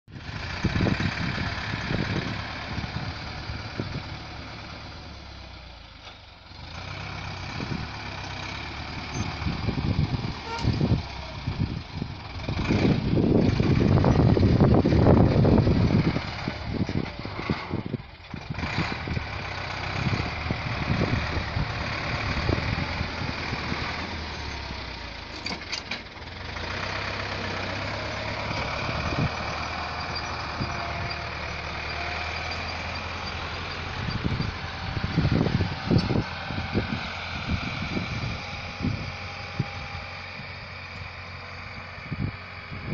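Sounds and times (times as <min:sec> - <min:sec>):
tractor engine running: 0:00.1 - 0:42.9.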